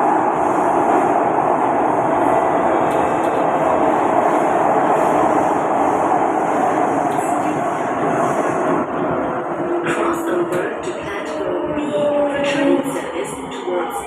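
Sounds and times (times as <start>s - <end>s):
metro wheels rumbling on rail: 0.0s - 14.0s.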